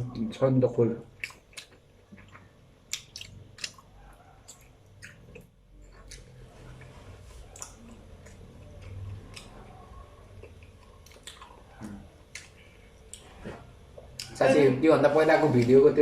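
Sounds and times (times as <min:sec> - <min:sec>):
wet chewing sounds: 0:01.2 - 0:14.4.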